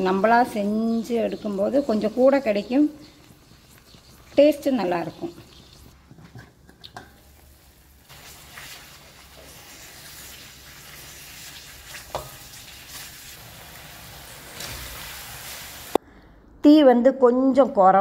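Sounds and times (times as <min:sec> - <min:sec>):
chilli paste sizzling in a wok: 0:00.0 - 0:16.0.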